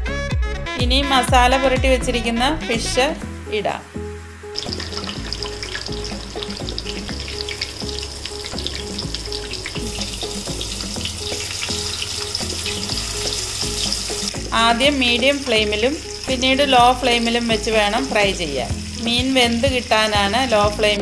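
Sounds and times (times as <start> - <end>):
fish frying in oil: 3.9 - 21.0.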